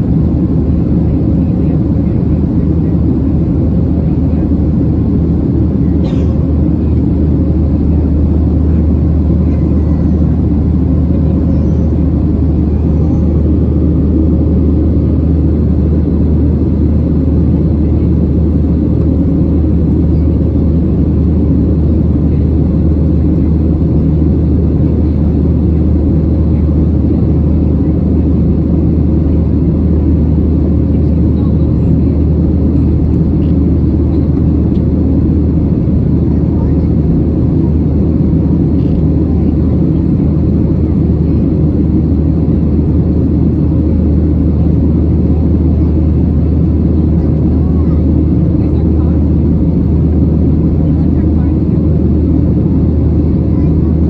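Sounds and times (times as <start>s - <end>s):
jet engine rumble: 0.0s - 54.0s
low hum: 0.0s - 54.0s.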